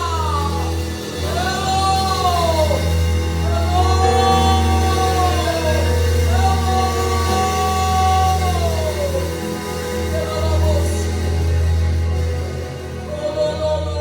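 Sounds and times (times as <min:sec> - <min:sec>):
person singing long notes: 0:00.0 - 0:12.1
slow worship music: 0:00.0 - 0:14.0.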